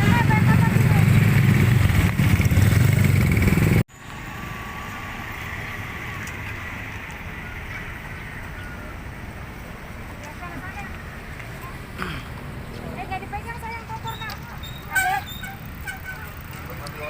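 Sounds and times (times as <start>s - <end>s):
passing vehicle rumble: 0.0s - 17.0s.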